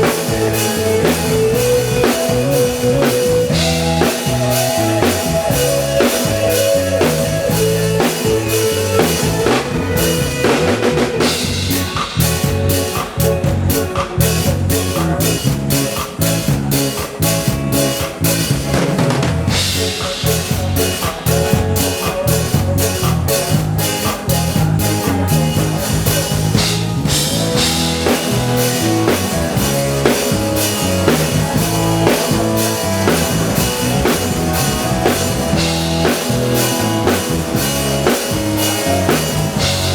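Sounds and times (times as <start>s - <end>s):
drum kit beat: 0.0s - 39.9s
guitar: 0.0s - 39.9s
live band playing: 0.0s - 39.9s.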